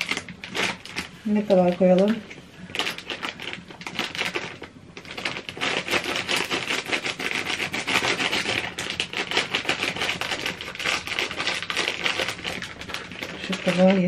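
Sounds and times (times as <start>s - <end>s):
utensil beating batter in bowl: 0.0s - 14.0s.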